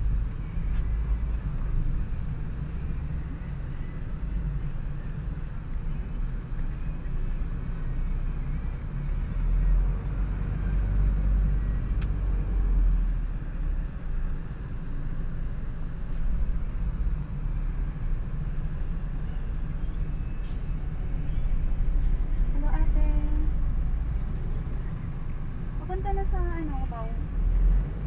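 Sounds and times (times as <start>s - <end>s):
vehicle engine rumble and road noise: 0.0s - 28.0s.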